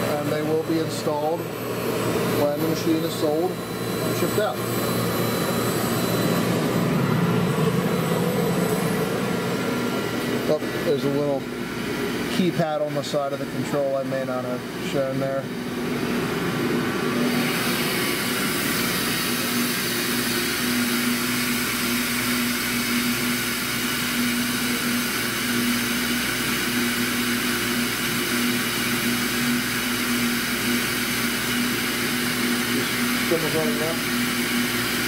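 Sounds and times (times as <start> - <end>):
grinding machine hum: 0.0 - 35.0.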